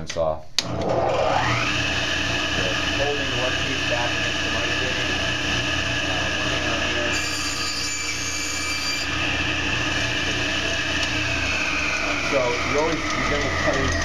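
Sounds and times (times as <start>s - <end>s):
table saw cutting wood: 0.6s - 14.0s.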